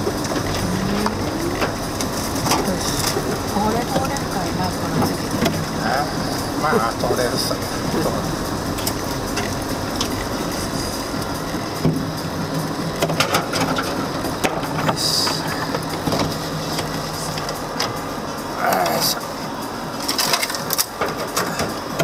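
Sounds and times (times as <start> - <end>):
car engine hum: 0.0 - 22.0.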